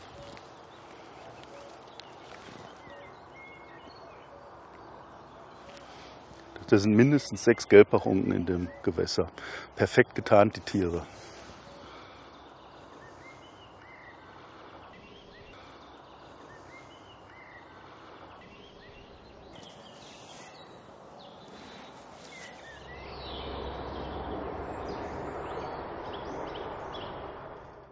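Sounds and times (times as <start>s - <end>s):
small birds chirping: 0.0s - 27.2s.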